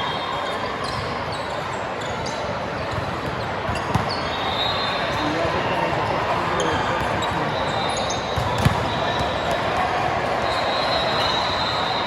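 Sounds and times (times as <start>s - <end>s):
murmur of voices: 0.0s - 12.0s
sneaker squeaks on court floor: 0.0s - 12.0s.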